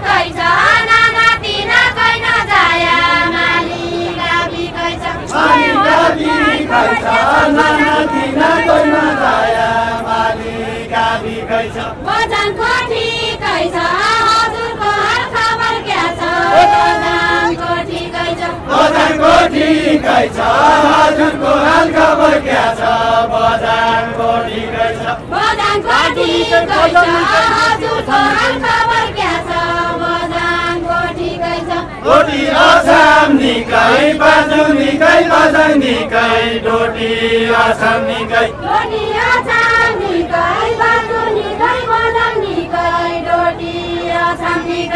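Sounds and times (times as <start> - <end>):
group of voices singing folk song: 0.0 - 44.9.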